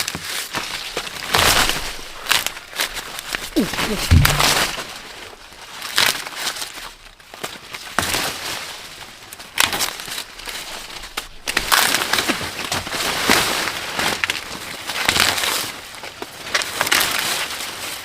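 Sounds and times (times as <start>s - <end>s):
dry corn leaves rustling: 0.0s - 18.0s.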